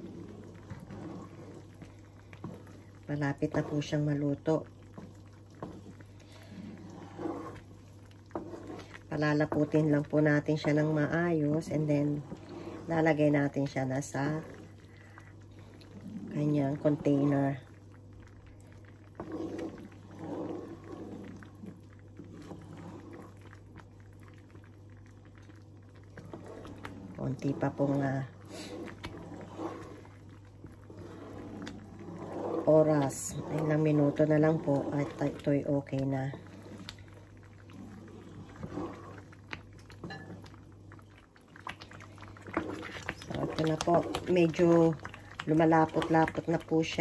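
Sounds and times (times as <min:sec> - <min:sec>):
steady low hum: 0:00.0 - 0:47.0
wooden spoon stirring thick mixture: 0:00.0 - 0:47.0.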